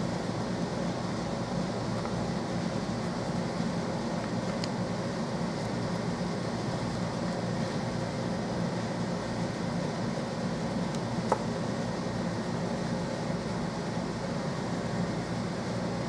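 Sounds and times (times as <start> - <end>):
fan hum and hiss: 0.0 - 16.0.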